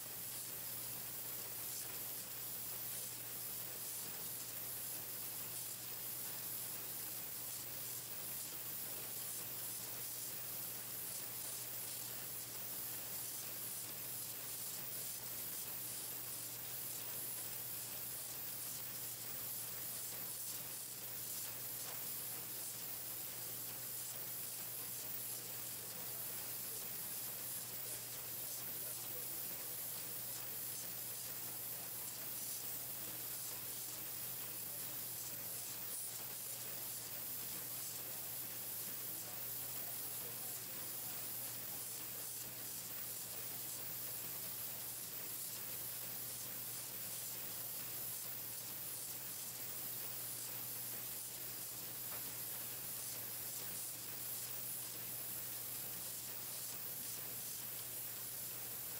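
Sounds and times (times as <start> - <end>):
machine hissing: 0.0 - 58.9.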